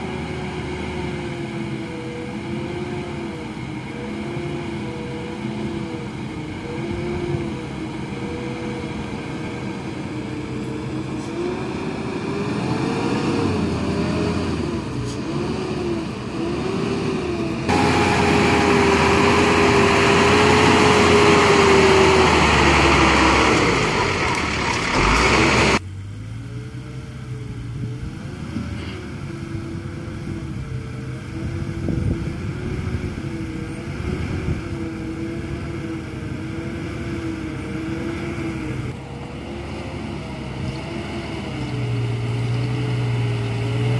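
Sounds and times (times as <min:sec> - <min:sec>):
truck diesel engine pulling slowly: 0:00.0 - 0:43.9.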